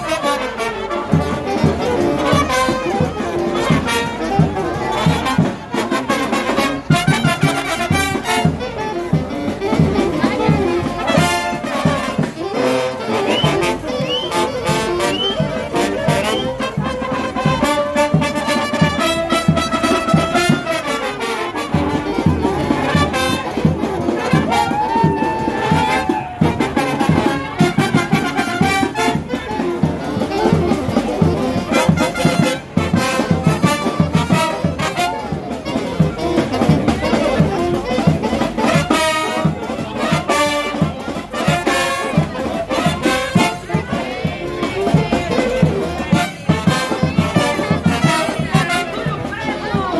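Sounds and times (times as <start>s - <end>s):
percussion beat: 0.0s - 49.9s
trumpets and trombones: 0.0s - 49.9s.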